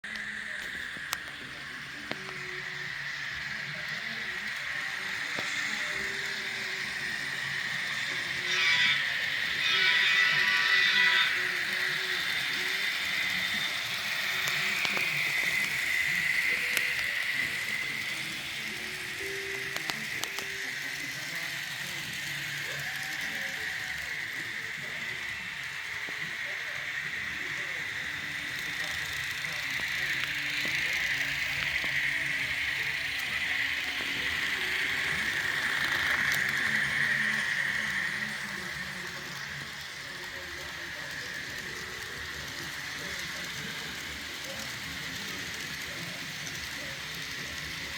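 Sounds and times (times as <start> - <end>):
model train motors whirring: 0.0 - 47.9.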